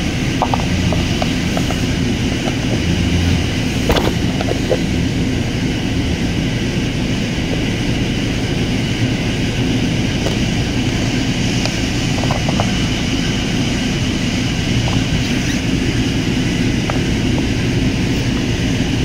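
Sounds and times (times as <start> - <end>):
machinery drone: 0.0 - 19.0.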